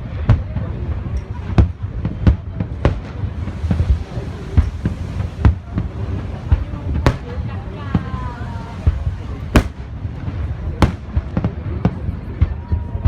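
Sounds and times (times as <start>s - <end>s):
fireworks bursting with sharp bangs: 0.0s - 13.0s
rumble of distant explosions: 0.0s - 13.0s.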